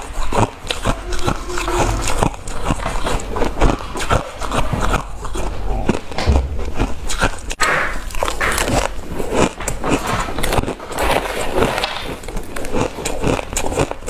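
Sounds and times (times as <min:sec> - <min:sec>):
ice being chewed: 0:00.0 - 0:14.0.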